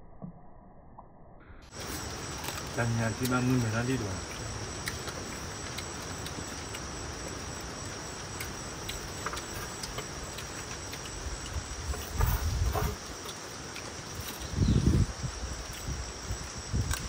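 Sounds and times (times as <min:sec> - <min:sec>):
insects chirring: 0:01.6 - 0:17.0.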